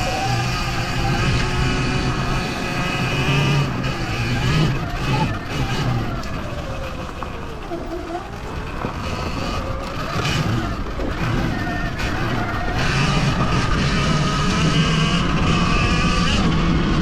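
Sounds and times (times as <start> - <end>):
electric dirt bike motor whining: 0.0 - 17.0
trail noise: 0.0 - 17.0
wind: 0.0 - 17.0.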